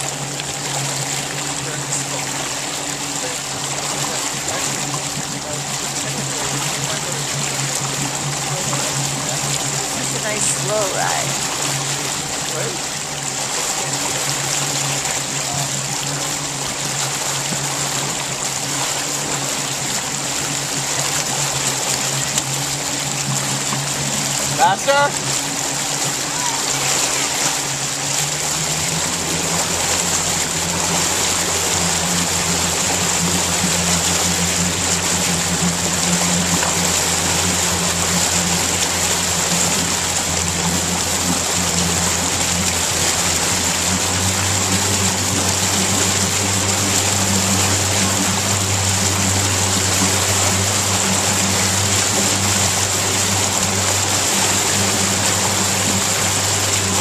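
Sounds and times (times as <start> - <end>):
motorboat engine running: 0.0 - 57.0
water rushing from hull: 0.0 - 57.0.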